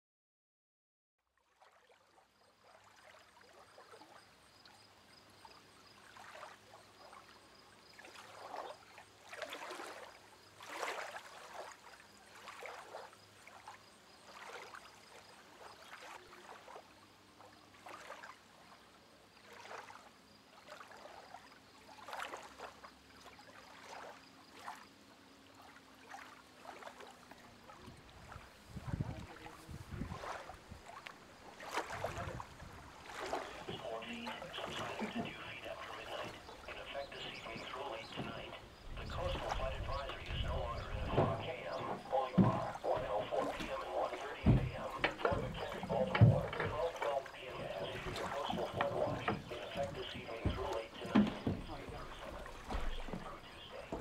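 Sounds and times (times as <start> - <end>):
water lapping and sloshing: 1.3 - 54.0.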